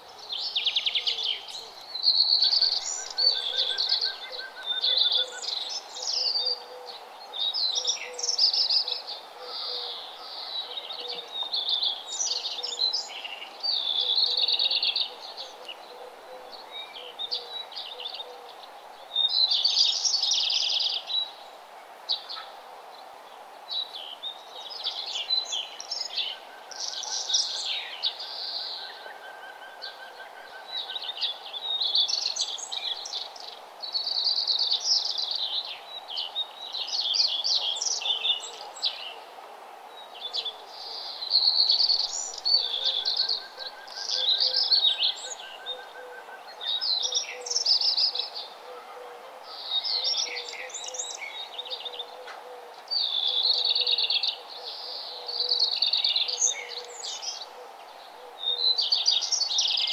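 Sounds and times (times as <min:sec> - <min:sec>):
small birds chirping and trilling: 0:00.0 - 0:22.6, 0:29.8 - 0:39.2, 0:40.0 - 0:48.6, 0:49.5 - 0:59.9.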